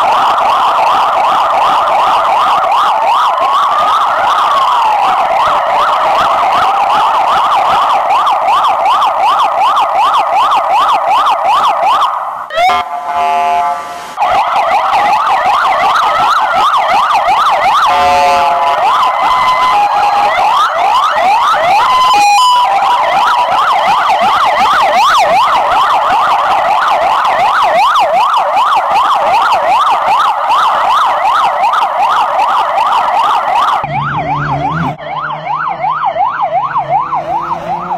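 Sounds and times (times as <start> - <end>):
police siren electronic yelp: 0.0 - 37.9.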